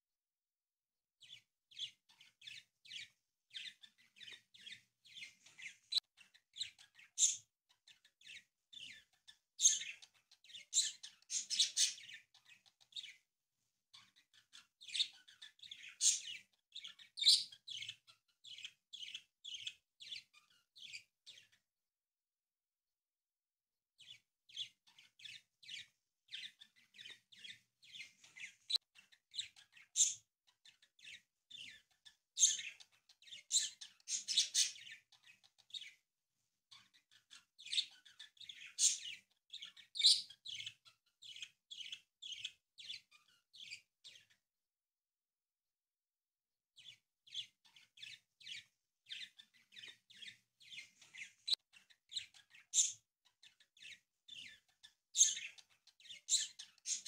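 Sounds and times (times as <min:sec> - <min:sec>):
small bird chirping: 0:01.2 - 0:13.3, 0:13.9 - 0:21.7, 0:24.0 - 0:36.1, 0:36.7 - 0:44.4, 0:46.8 - 0:57.0.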